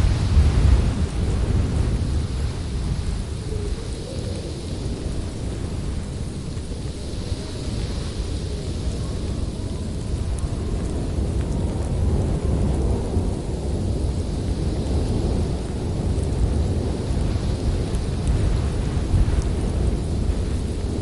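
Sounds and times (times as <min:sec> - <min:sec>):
howling wind: 0:00.0 - 0:21.0.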